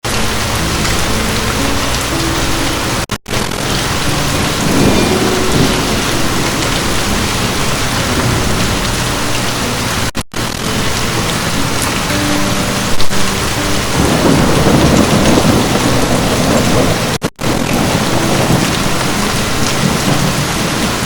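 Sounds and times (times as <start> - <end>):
heavy rain: 0.0 - 21.0
thunder rumble: 0.0 - 21.0.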